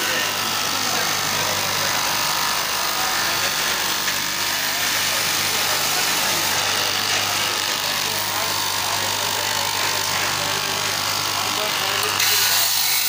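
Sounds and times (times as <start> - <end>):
fabric cutting machine running: 0.0 - 13.0.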